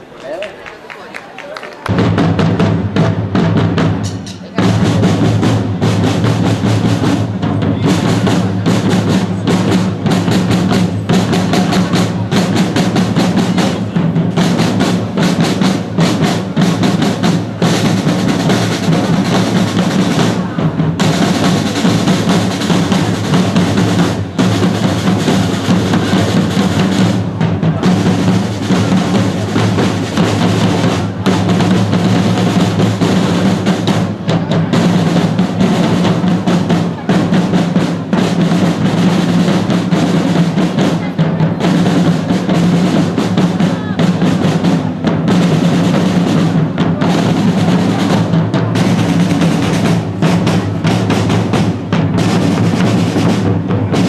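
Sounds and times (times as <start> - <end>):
side drums rolling cadence: 0.0 - 54.0.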